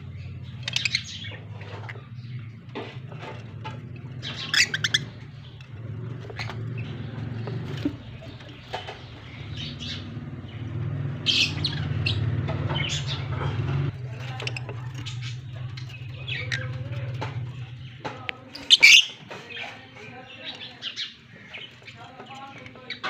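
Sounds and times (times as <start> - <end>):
lovebirds chirping: 0.0 - 23.0.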